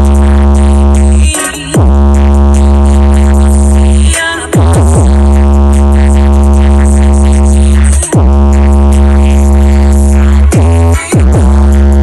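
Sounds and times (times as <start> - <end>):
deep bass note: 0.0 - 12.0
loud electronic music: 0.0 - 12.0.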